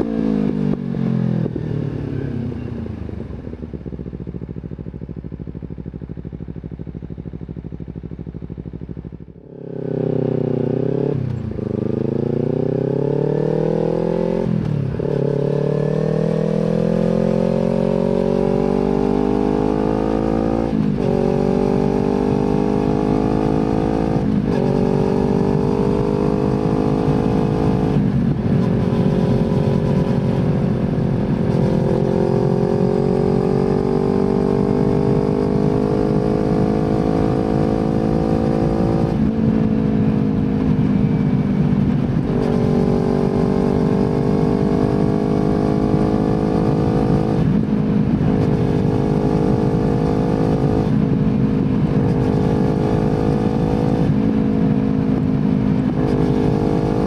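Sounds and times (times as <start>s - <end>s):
motorcycle accelerating through gears: 0.0s - 57.0s.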